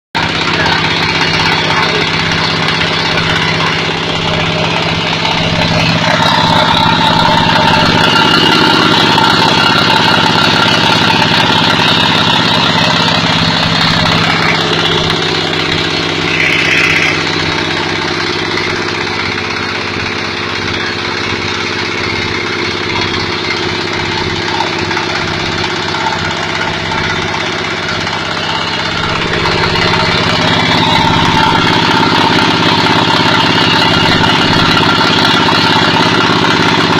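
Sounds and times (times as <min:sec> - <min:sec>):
extruder machine humming: 0:00.2 - 0:36.9.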